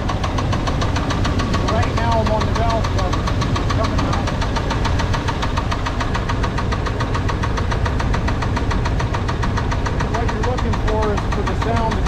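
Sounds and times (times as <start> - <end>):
engine running with rapid knock: 0.0 - 12.0.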